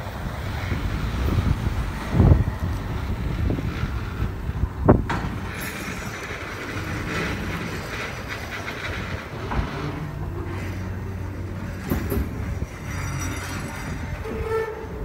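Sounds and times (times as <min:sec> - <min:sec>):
train wheels clacking over rail joints: 0:00.0 - 0:15.0.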